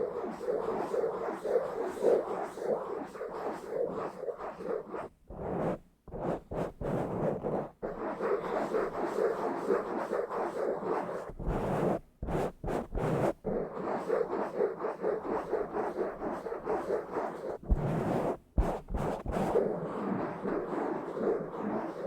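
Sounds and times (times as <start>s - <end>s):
scratching on a microphone: 0.0s - 22.0s.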